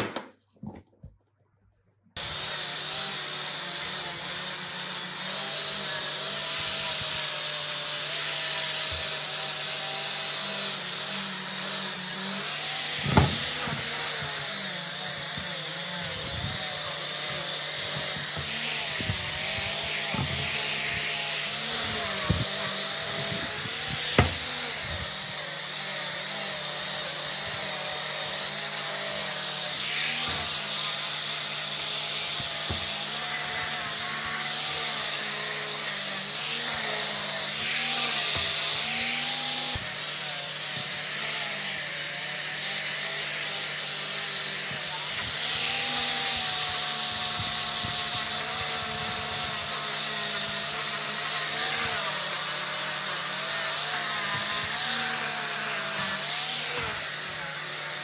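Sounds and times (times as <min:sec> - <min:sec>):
angle grinder grinding metal: 0:02.2 - 0:58.0.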